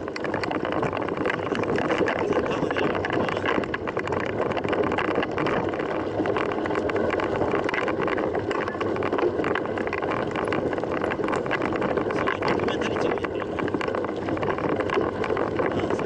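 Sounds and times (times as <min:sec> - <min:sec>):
bike tyres on dirt trail: 0:00.0 - 0:16.0
wind on microphone: 0:00.0 - 0:16.0.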